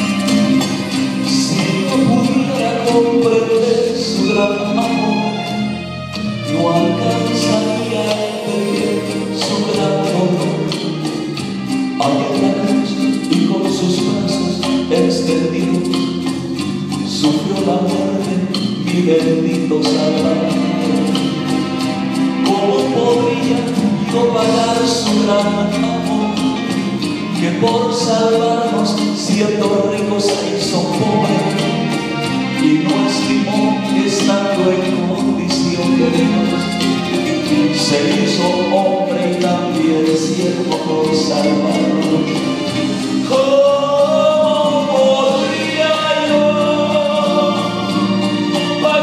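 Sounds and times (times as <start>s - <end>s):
instrumental accompaniment with beat: 0.0s - 49.0s
man singing into a microphone: 0.0s - 49.0s.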